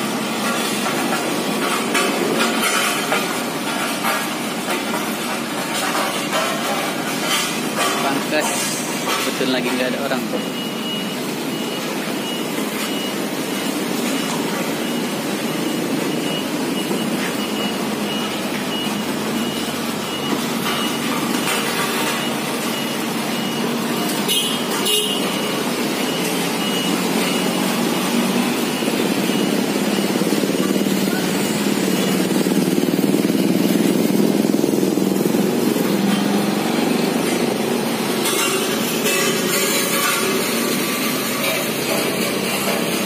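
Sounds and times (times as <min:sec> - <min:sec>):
reversing alarm beeping: 0:00.0 - 0:43.0
road roller engine drone: 0:00.0 - 0:43.0.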